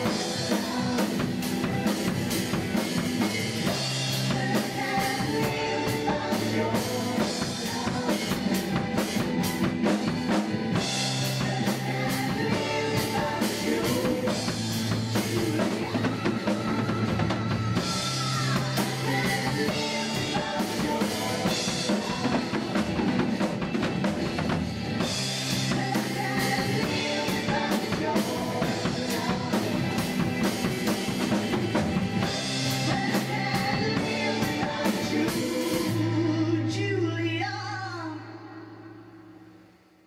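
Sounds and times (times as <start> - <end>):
acoustic drum kit playing: 0.0 - 36.4
rock song with singing: 0.0 - 39.4.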